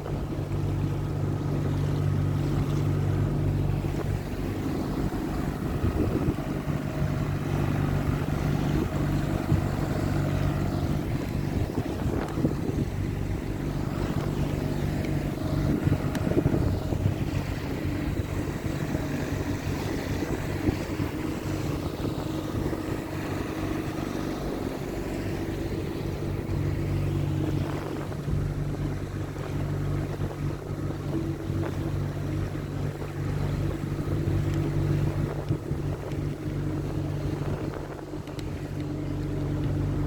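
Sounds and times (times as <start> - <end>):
motorboat engine humming: 0.0 - 40.0
wind buffeting microphone: 0.0 - 40.0.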